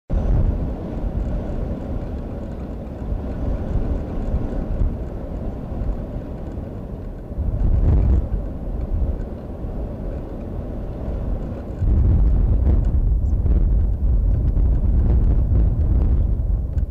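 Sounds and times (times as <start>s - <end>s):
wind buffeting microphone: 0.1s - 16.9s.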